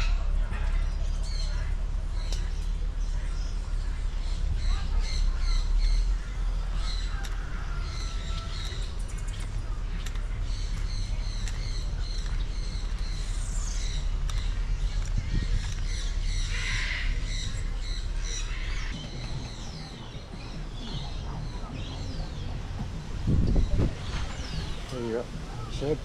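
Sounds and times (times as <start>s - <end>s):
birds chirping: 0.0s - 26.0s
low rumble: 0.0s - 26.0s.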